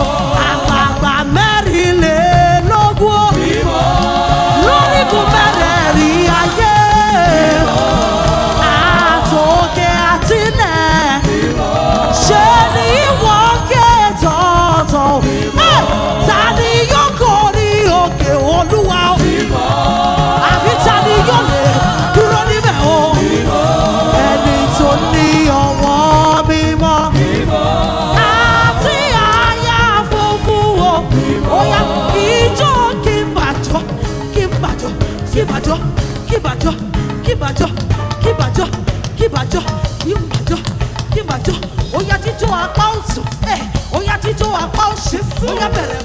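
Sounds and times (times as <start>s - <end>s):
gospel worship music: 0.0s - 46.0s.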